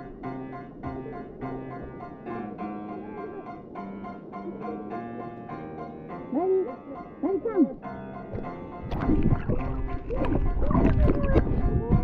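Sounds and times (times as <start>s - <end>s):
solo piano music: 0.0s - 12.0s.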